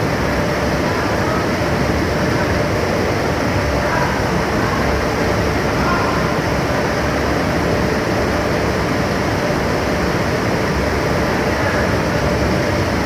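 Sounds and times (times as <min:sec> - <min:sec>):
machinery rumble and hum: 0:00.0 - 0:13.0.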